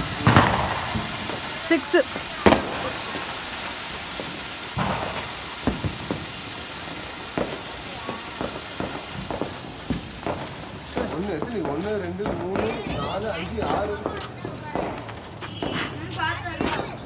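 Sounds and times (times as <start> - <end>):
firework fountain hissing: 0.0 - 17.0
firework pops and crackles: 0.0 - 17.0
sharp firework crack: 0.0 - 17.0.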